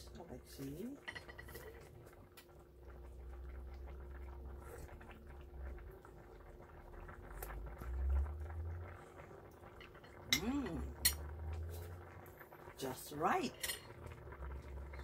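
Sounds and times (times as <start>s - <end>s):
broth boiling in a pot: 0.0s - 15.0s
faint steady hum: 0.0s - 15.0s.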